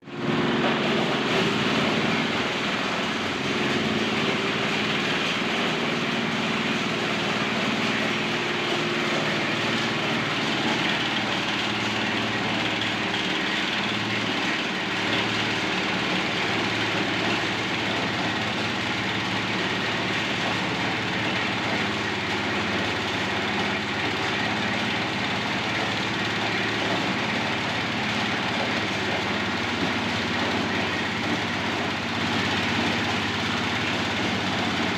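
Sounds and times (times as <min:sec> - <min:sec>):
corn sheller machine running: 0:00.0 - 0:34.9.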